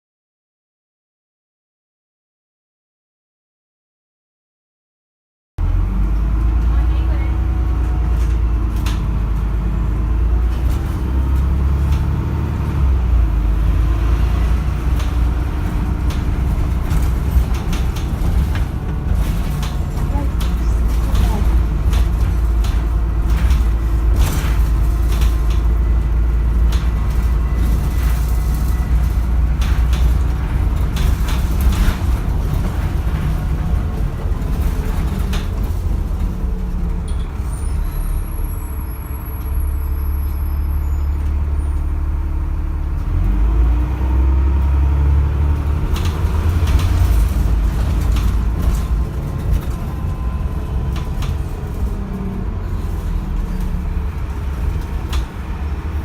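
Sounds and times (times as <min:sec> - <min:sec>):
bus diesel engine rumbling: 0:05.6 - 0:56.0
bus body rattles and knocks: 0:06.0 - 0:38.7, 0:41.2 - 0:56.0.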